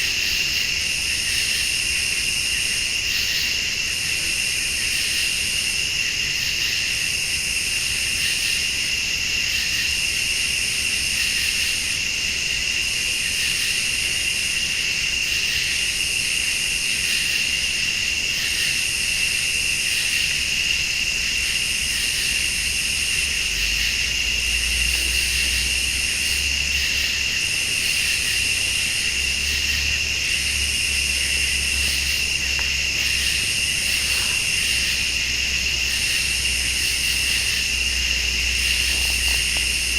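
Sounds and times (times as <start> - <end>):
crickets trilling: 0.0 - 39.9
high-pitched pulsing insect call: 0.0 - 39.9.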